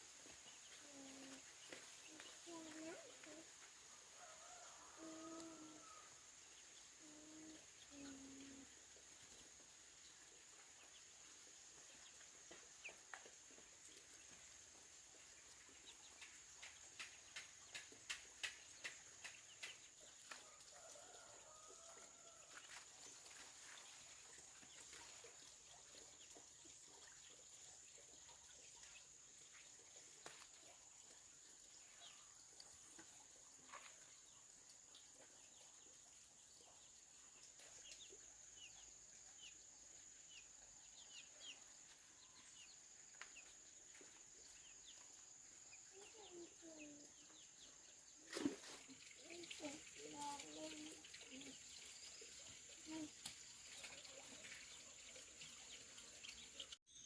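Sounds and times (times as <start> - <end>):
faint chickens chirping: 0.0 - 56.9.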